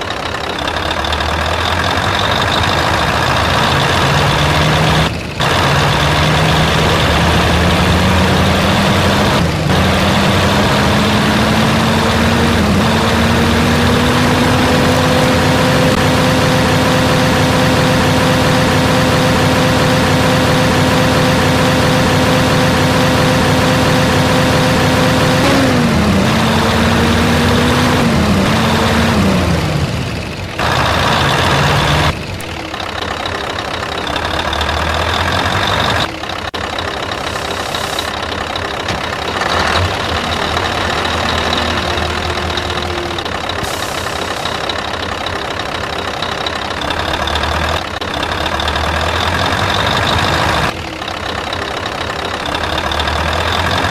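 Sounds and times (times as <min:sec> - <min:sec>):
heavy truck engine: 0:00.0 - 0:53.9.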